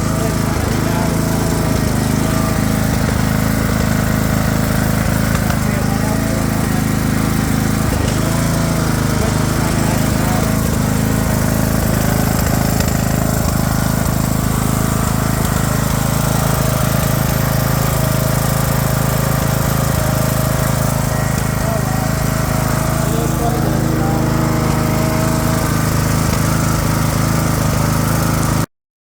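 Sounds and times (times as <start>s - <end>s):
lawn mower engine running: 0.0s - 28.7s.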